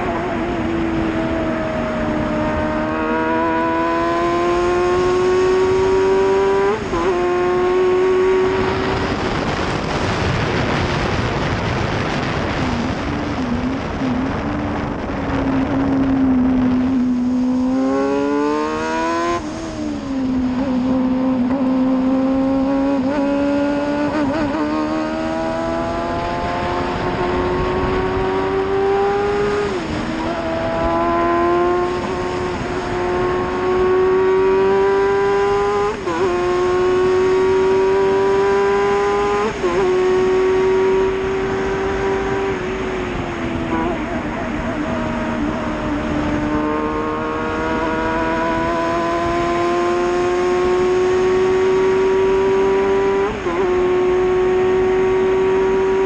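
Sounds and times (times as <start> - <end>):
racing car engine revving: 0.0 - 56.0
wind rush: 0.0 - 56.0.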